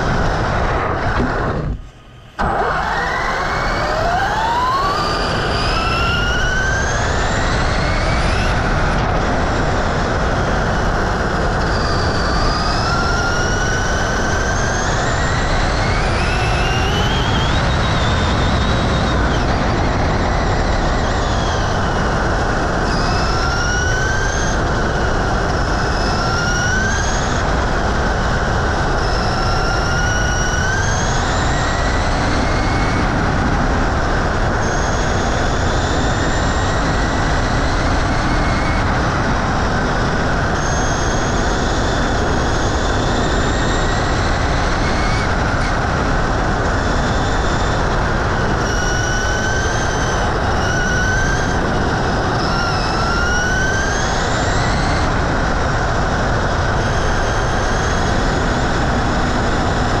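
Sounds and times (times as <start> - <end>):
electric motor and gear whine: 0.0 - 60.0
rush of wind and tyres: 0.0 - 60.0.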